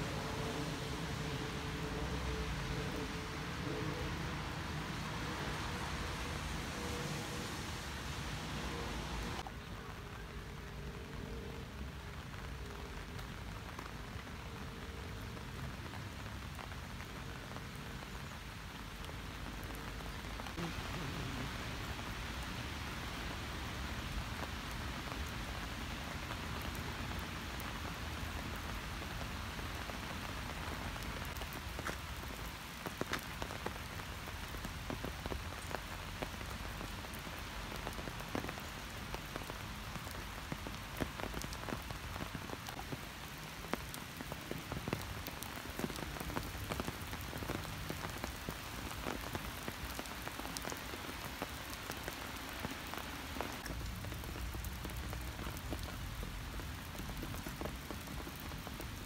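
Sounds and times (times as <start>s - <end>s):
constant hiss of rain: 0.0s - 59.0s
raindrops ticking close by: 0.0s - 59.0s.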